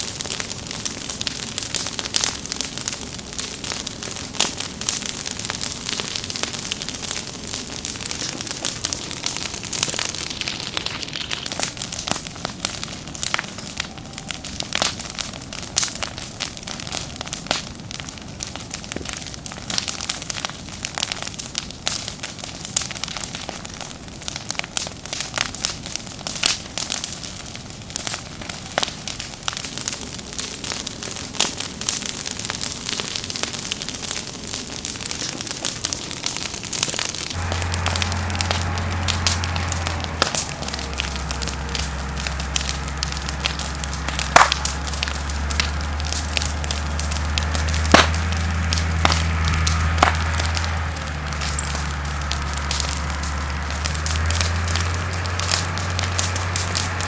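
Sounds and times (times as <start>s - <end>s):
fire crackling: 0.0s - 57.0s.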